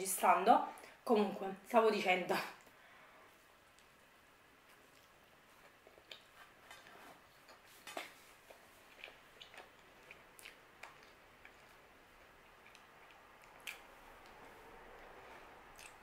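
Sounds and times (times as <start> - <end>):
faint chewing: 2.6 - 16.0.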